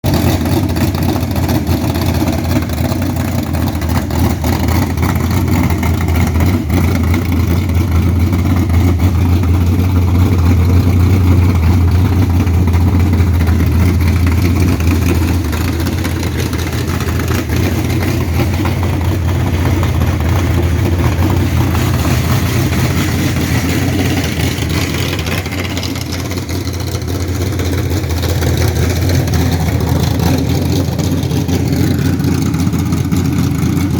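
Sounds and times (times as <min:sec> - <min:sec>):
car engine idling through exhaust: 0:00.0 - 0:33.9.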